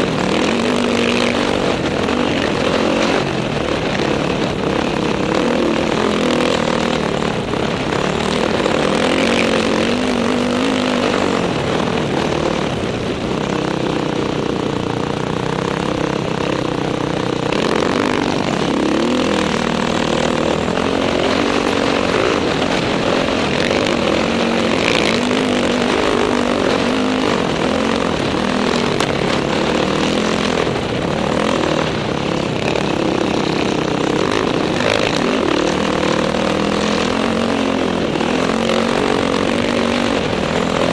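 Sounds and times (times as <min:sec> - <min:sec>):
dirt bike engine revving: 0:00.0 - 0:40.9
wind rushing over microphone: 0:00.0 - 0:40.9.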